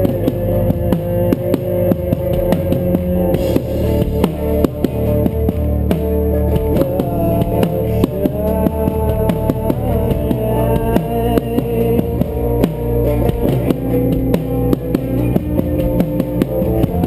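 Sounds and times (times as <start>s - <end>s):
drum kit beat: 0.0s - 17.0s
sustained guitar notes: 0.0s - 17.0s.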